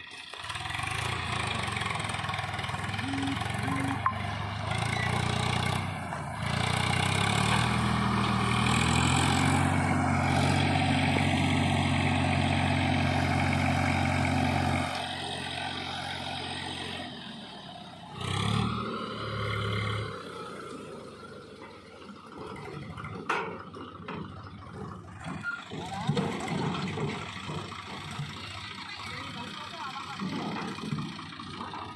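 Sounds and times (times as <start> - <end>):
backhoe diesel engine revving: 0.0 - 31.9.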